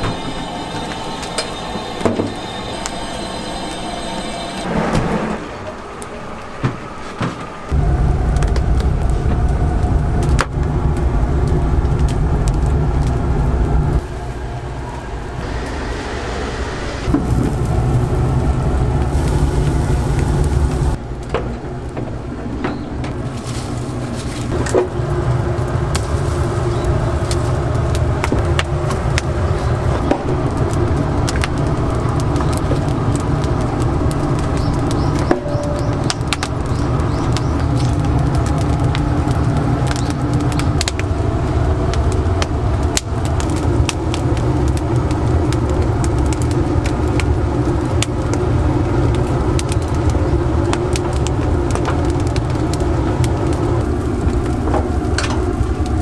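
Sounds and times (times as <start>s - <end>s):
firewood crackling: 0.0s - 56.0s
oven mechanical hum: 0.0s - 56.0s.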